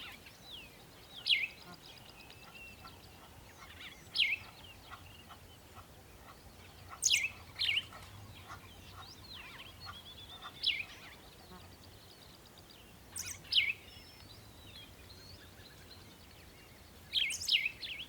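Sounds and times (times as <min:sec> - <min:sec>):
faint bird chirps and twitters: 0:00.0 - 0:18.0.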